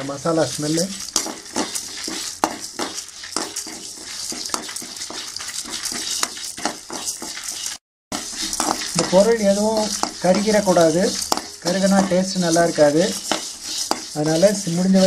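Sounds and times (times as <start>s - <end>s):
spatula scraping roasting seeds: 0.0s - 15.0s
steady hiss: 0.0s - 15.0s.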